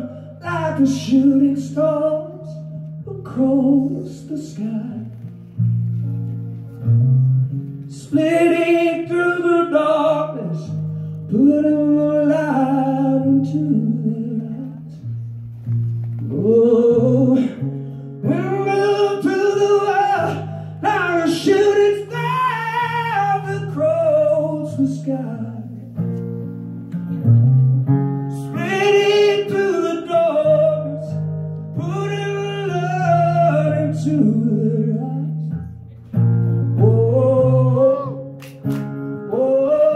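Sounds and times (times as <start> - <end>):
man singing: 0.0 - 5.3, 7.9 - 15.1, 16.2 - 26.0, 28.2 - 35.6, 36.6 - 39.9
strummed acoustic guitar: 0.1 - 39.9.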